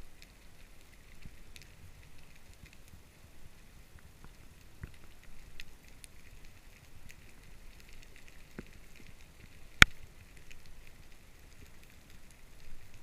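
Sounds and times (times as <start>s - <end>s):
underwater crackle of small clicks: 0.0s - 13.0s.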